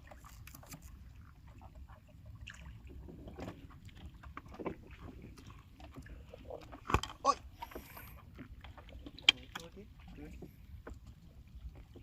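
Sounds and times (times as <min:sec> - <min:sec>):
water and wind rumble: 0:00.0 - 0:12.0.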